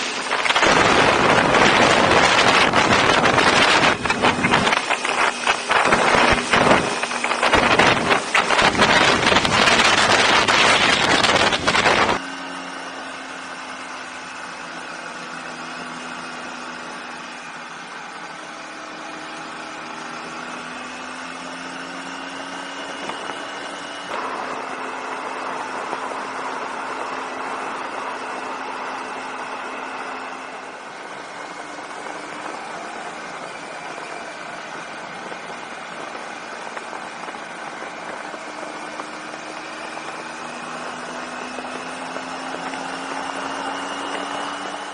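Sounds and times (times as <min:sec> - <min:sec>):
motorcycle engine cruising: 0:00.0 - 0:44.9
wind and road noise: 0:00.0 - 0:44.9.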